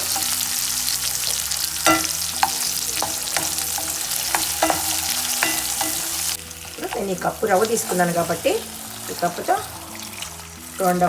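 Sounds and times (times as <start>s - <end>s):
spatula scraping a pan: 0.0s - 10.9s
food sizzling in hot oil: 0.0s - 11.0s.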